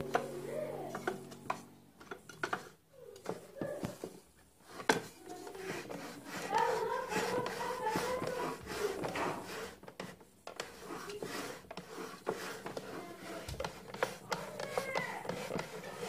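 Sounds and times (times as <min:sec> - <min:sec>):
rubbing and knocking handling: 0:00.0 - 0:16.0.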